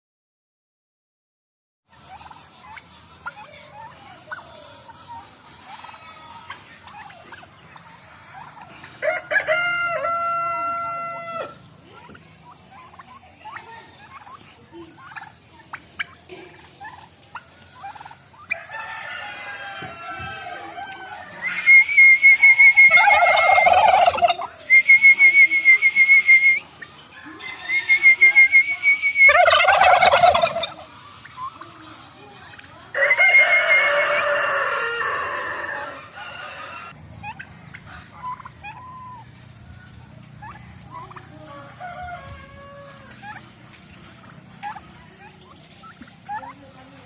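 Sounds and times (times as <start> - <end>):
turkeys gobbling: 1.9 - 47.0.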